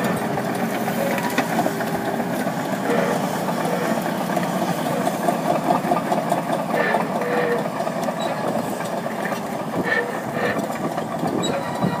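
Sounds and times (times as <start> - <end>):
heavy tractor engine under load: 0.0 - 12.0
machinery rattling clatter: 0.0 - 12.0.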